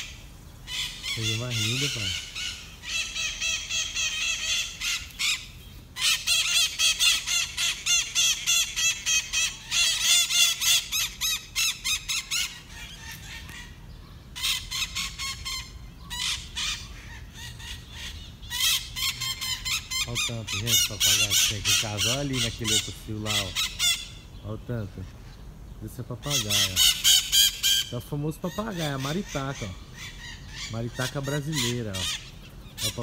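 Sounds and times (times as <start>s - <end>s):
parakeets screeching: 0.0s - 33.0s.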